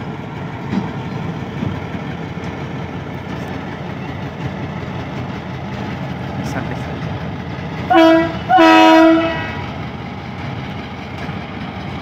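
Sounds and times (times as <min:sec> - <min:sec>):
diesel locomotive running: 0:00.0 - 0:12.0.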